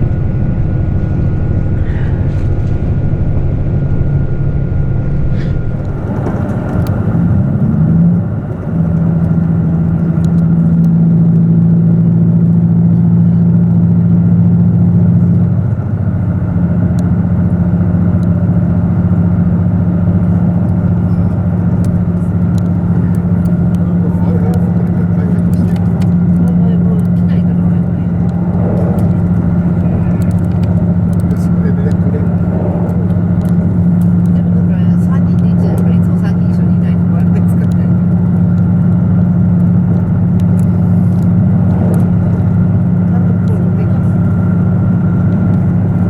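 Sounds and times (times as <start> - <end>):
diesel railcar engine: 0.0 - 46.0
rail rumble: 0.0 - 46.0.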